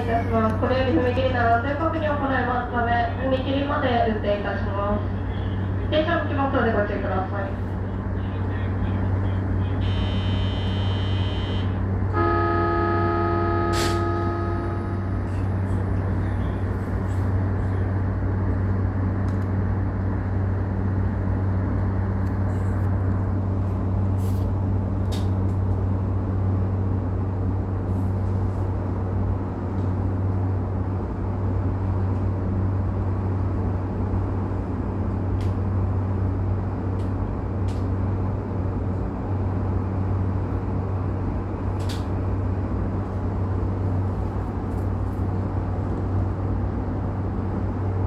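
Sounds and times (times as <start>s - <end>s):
train hum and rumble: 0.0s - 48.0s.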